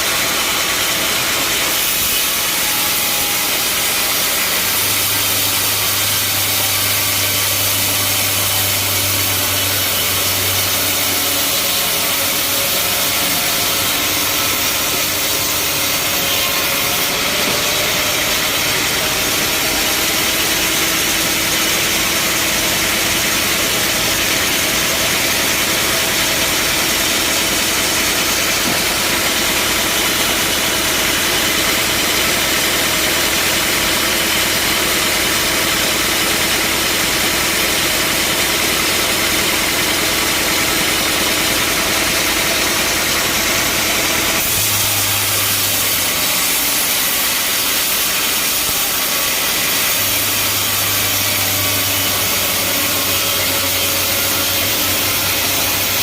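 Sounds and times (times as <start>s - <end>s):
bandsaw sawmill running: 0.0s - 56.0s.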